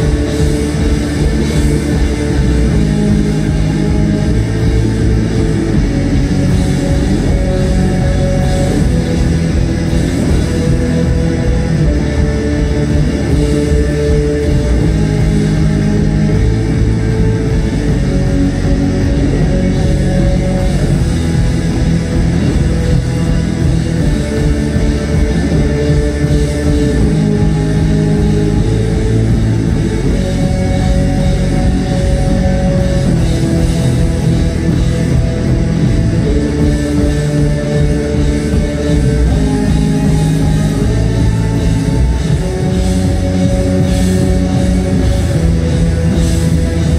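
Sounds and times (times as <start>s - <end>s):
bass guitar: 0.0s - 46.9s
drum kit: 0.0s - 46.9s
electric guitars: 0.0s - 46.9s.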